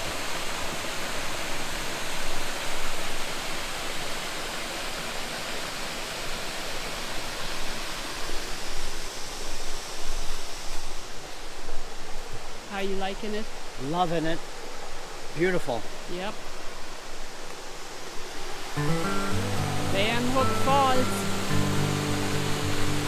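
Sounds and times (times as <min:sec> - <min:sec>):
cascading water rushing: 0:00.0 - 0:23.0.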